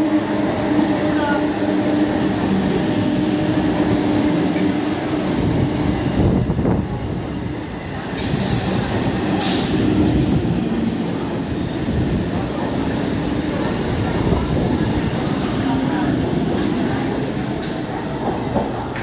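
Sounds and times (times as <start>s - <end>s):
train humming tone: 0.0s - 19.0s
train wheels rumbling on rails: 0.0s - 19.0s.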